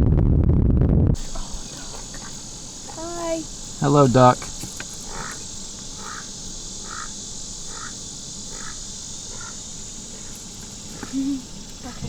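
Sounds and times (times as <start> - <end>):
high insect drone: 1.2 - 12.0.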